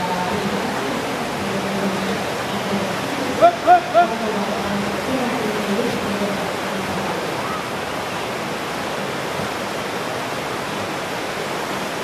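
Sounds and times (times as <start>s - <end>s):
whitewater rapids roaring: 0.0s - 12.0s.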